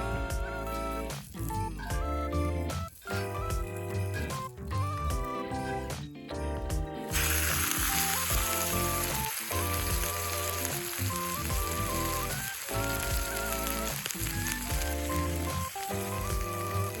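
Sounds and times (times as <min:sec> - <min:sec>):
background music: 0:00.0 - 0:17.0
steak sizzling: 0:00.1 - 0:04.4, 0:07.1 - 0:17.0.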